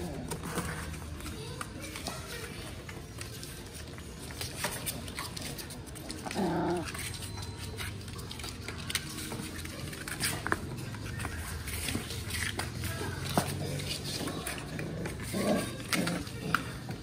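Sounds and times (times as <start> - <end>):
puppy paws scratching cardboard: 0.0 - 17.0.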